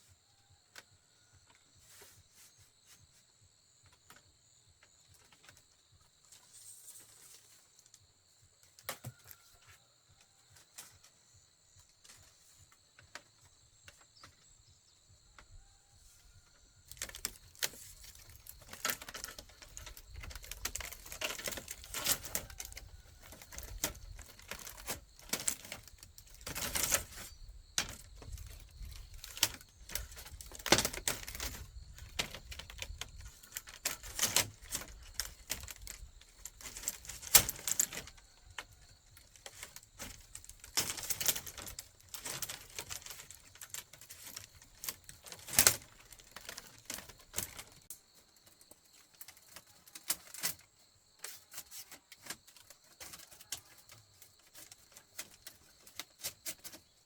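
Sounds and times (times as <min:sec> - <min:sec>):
bamboo knocking and clattering: 0:03.8 - 0:57.0.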